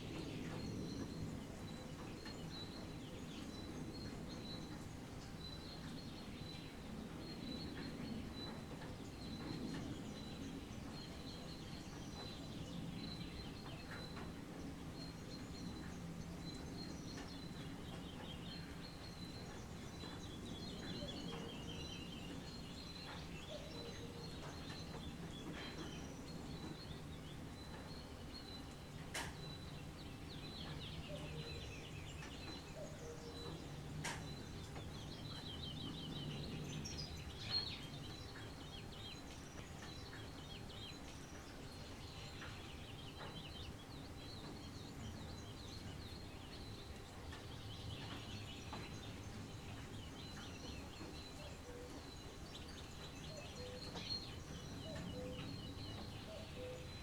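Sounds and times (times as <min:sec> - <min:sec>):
birds singing: 0:00.0 - 0:57.0
low outdoor background hum: 0:00.0 - 0:57.0.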